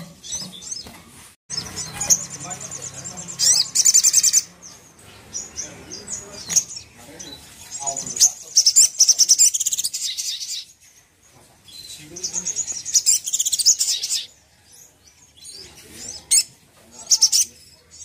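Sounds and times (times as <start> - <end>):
bird chirps: 0.0 - 18.0
sunbird trilling song: 1.5 - 18.0.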